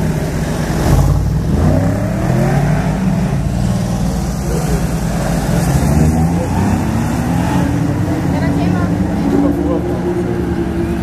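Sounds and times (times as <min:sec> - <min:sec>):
sports car engines rolling past: 0:00.0 - 0:11.0
engine revving up: 0:00.7 - 0:11.0.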